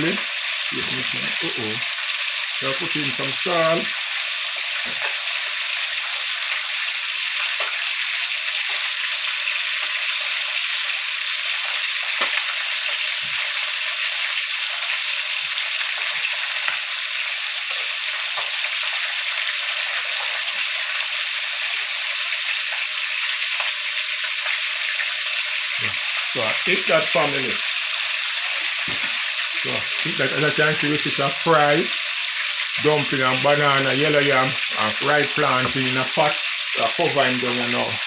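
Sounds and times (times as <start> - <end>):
fish sizzling in hot oil: 0.0 - 38.0
oil crackling and popping: 0.0 - 38.0.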